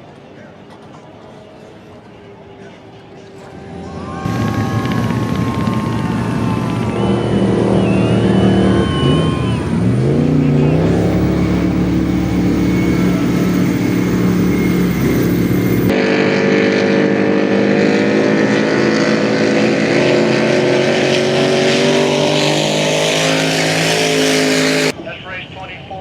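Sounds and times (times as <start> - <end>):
boat engine droning: 0.0 - 26.0
higher boat engine note: 3.0 - 25.8.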